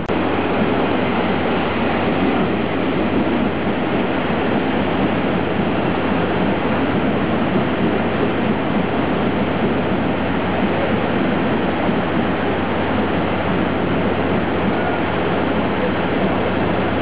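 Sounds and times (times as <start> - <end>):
train wheels running over rails: 0.0 - 17.0.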